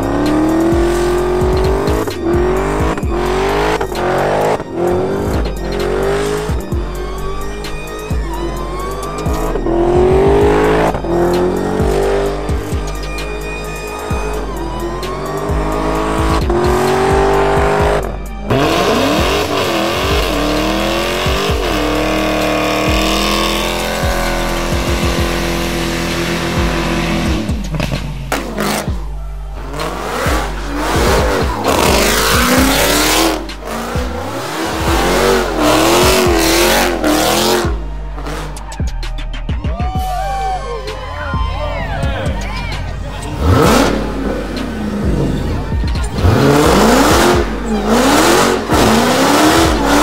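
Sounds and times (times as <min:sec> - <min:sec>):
car engines revving: 0:00.0 - 0:39.7, 0:40.5 - 0:50.0
music with heavy bass beat: 0:00.0 - 0:50.0
tires squealing: 0:00.0 - 0:50.0.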